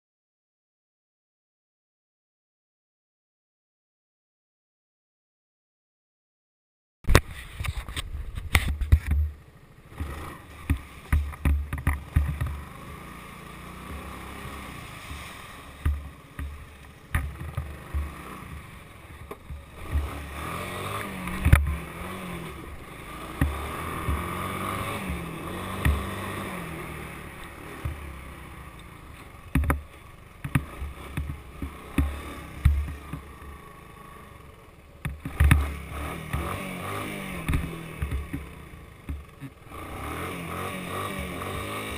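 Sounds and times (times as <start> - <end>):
three-wheeler engine revving: 7.4 - 41.9.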